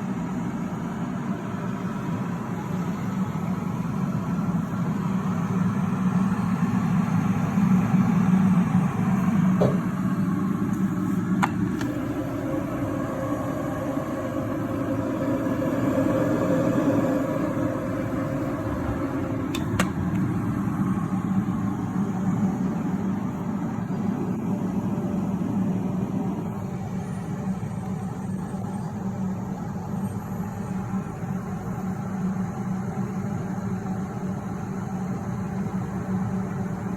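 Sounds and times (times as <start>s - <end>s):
electric kettle rumbling: 0.0s - 36.9s.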